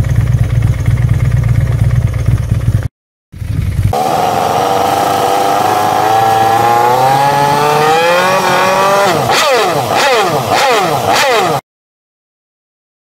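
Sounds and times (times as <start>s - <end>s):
motorcycle engine idling and revving: 0.0s - 11.6s.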